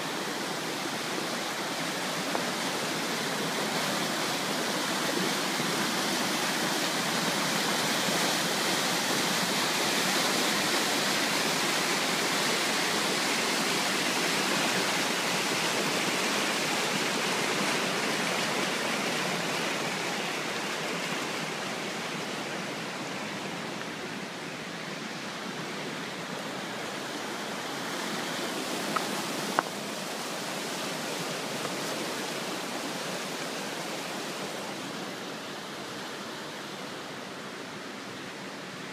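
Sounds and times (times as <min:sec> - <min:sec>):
river rapids rushing over rocks: 0:00.0 - 0:38.9.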